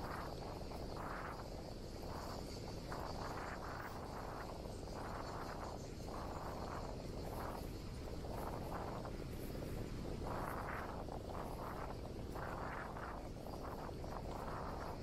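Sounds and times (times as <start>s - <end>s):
insect chirring: 0.0s - 15.0s
wind noise on microphone: 0.0s - 15.0s.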